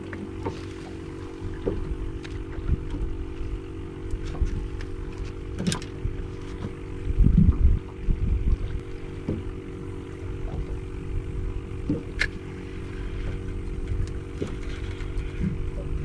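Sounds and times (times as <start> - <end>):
boat motor humming: 0.0 - 16.0
wind and water rumble: 0.0 - 16.0.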